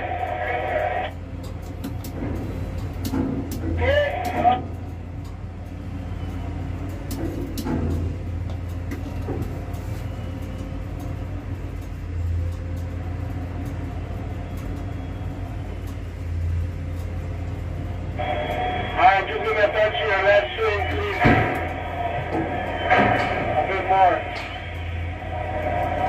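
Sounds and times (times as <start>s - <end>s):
construction machinery rumble: 0.0s - 26.0s.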